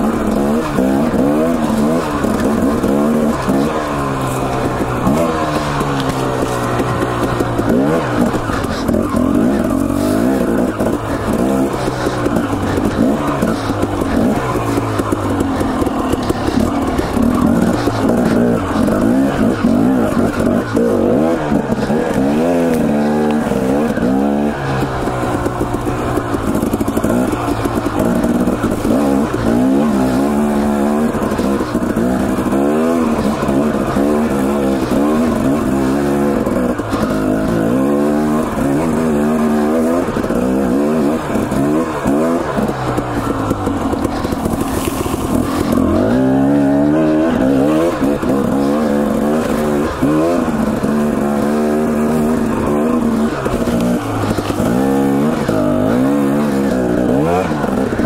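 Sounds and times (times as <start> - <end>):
dirt bike engine revving: 0.0 - 58.0
trail noise: 0.0 - 58.0
wind: 0.0 - 58.0.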